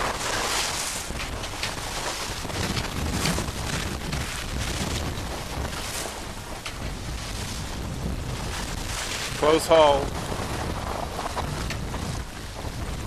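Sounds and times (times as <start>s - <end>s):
water rushing along hull: 0.0s - 13.0s
wind buffeting microphone: 0.0s - 13.0s.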